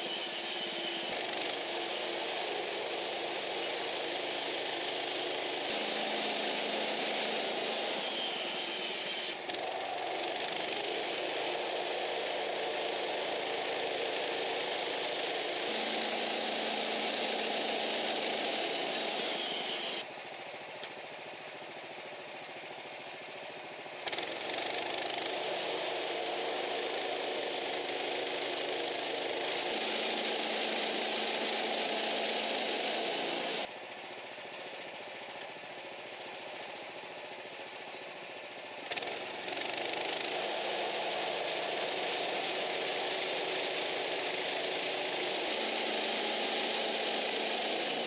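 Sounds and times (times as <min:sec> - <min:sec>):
sawmill engine running: 0:00.0 - 0:20.1, 0:21.1 - 0:48.0.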